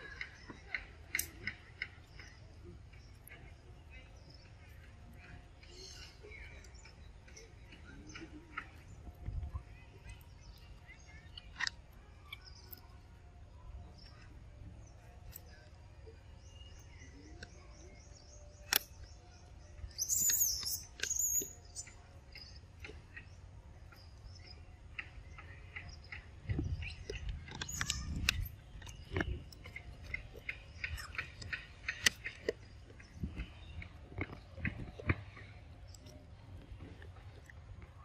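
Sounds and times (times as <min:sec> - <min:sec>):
monkey eating clicks and smacks: 0:00.0 - 0:13.2, 0:20.0 - 0:38.0
birds chirping: 0:00.0 - 0:38.0.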